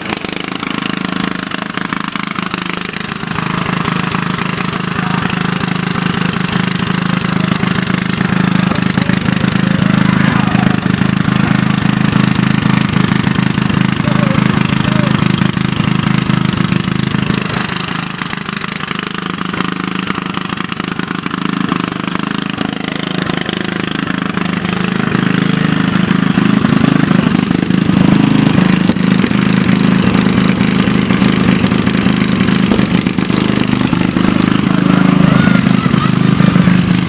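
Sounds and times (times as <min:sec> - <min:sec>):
riding lawn mower engine running: 0:00.0 - 0:37.0.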